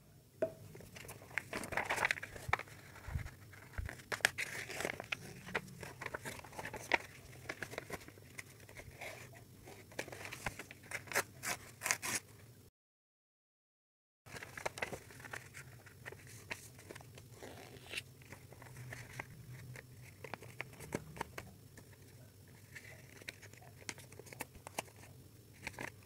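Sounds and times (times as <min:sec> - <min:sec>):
paper crinkling and rustling: 0:00.8 - 0:12.2, 0:14.3 - 0:26.0.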